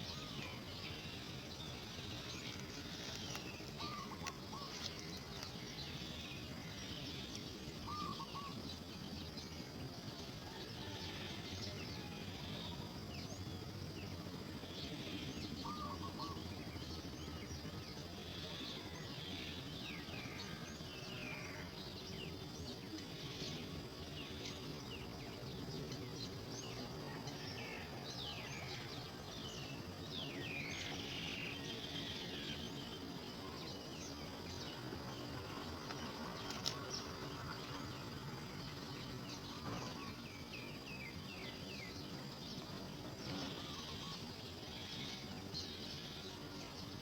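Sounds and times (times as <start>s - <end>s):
background hiss: 0.0s - 47.0s
birds chirping and twittering: 0.0s - 47.0s
high insect drone: 0.0s - 47.0s.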